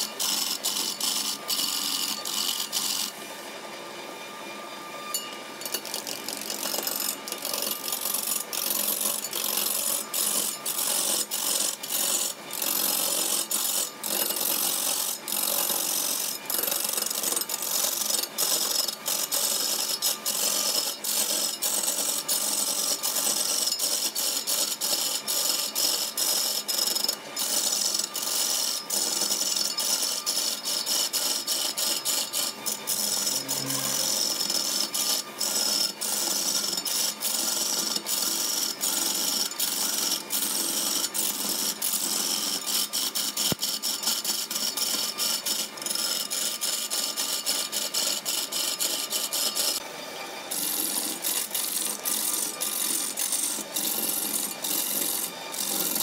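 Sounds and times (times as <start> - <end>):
lathe tool scraping spinning wood: 0.0 - 56.0.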